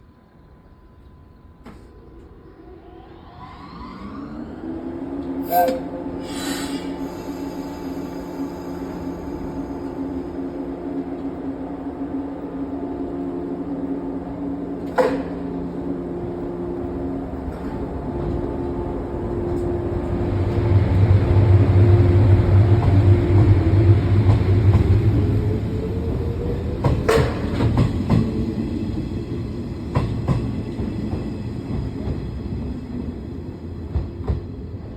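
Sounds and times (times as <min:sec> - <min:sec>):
electric train humming and whining: 0:00.0 - 0:34.9.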